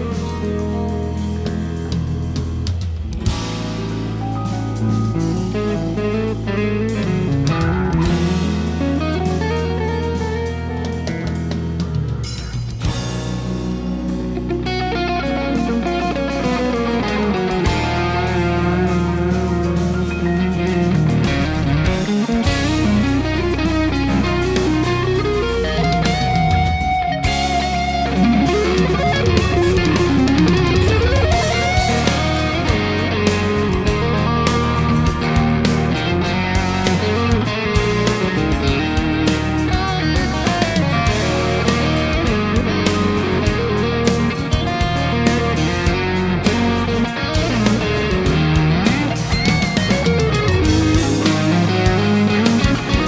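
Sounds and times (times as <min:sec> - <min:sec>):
backing track with bass and drums: 0:00.0 - 0:53.0
electric guitar lead line: 0:00.0 - 0:53.0.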